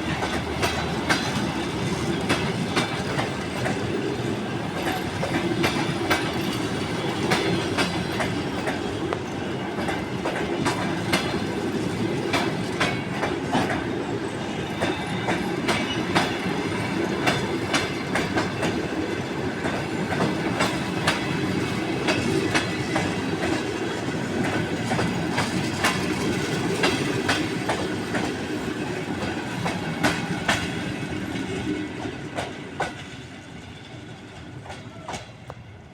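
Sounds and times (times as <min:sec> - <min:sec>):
wheels clacking over rail joints: 0:00.0 - 0:33.2
train coaches rumbling on track: 0:00.0 - 0:35.9.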